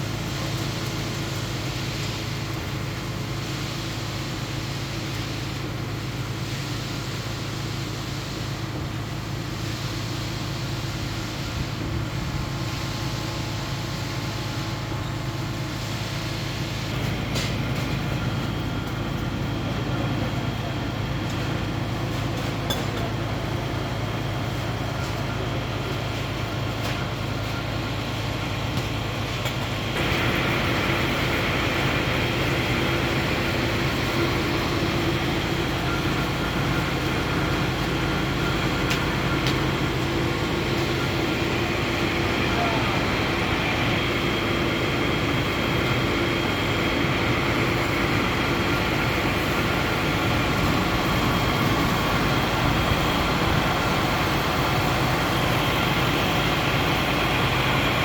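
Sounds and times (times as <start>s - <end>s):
heavy machinery engine running: 0.0s - 58.0s.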